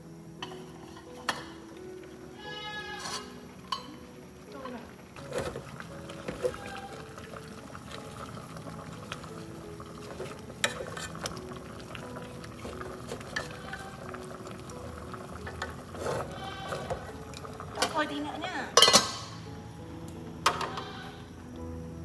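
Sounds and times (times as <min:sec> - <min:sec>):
water boiling in a pot: 0:00.0 - 0:21.6.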